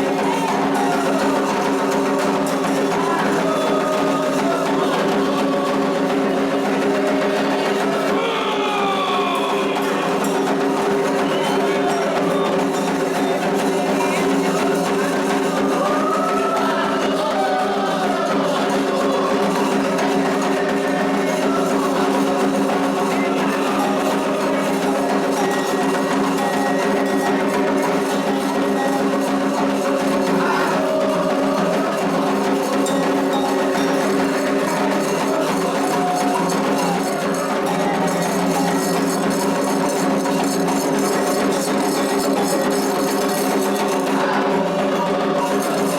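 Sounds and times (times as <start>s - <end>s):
clacking wood-block percussion: 0.0s - 45.9s
faint singing voices: 0.0s - 45.9s.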